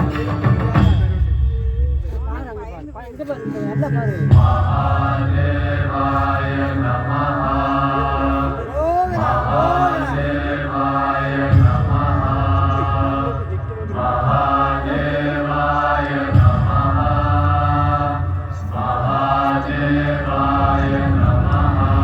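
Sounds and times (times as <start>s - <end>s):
voices chanting: 0.0s - 22.0s
deep low drone: 4.1s - 22.0s.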